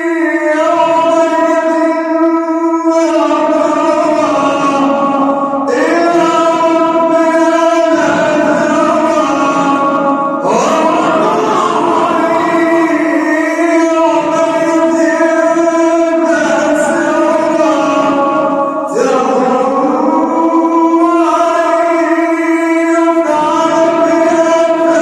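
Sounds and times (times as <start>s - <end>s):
man reciting melodically: 0.0s - 25.0s.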